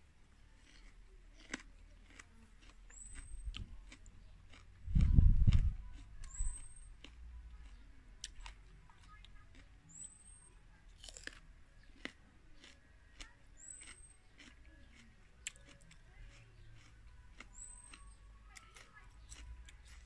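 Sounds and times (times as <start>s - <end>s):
chewing and crunching food: 0.0s - 20.0s.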